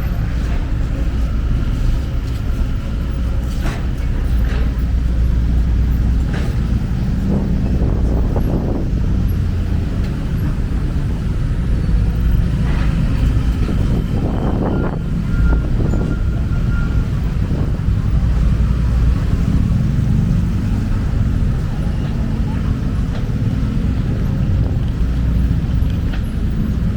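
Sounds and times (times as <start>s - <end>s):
vehicles passing by: 0.0s - 26.9s.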